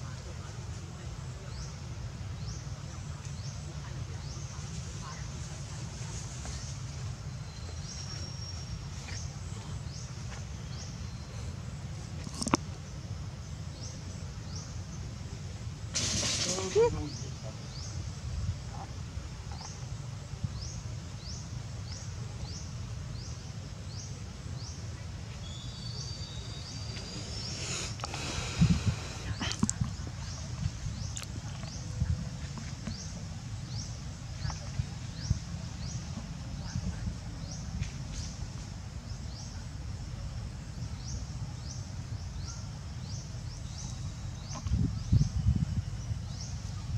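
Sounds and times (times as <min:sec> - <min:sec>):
constant low rumble: 0:00.0 - 0:46.9.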